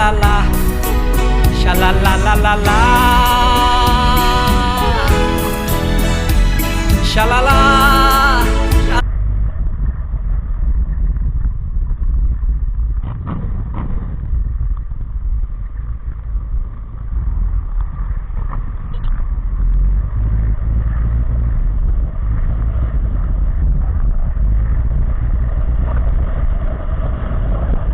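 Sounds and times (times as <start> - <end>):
scooter engine and road noise: 0.0 - 27.9.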